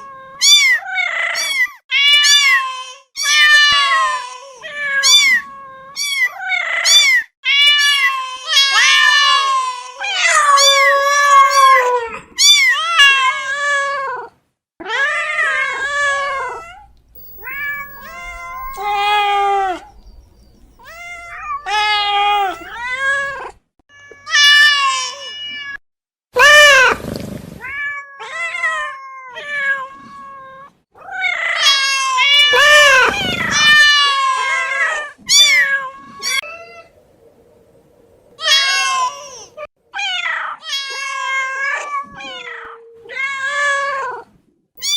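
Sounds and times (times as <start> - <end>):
cats meowing: 0.0 - 25.8, 27.6 - 36.9, 38.4 - 44.9.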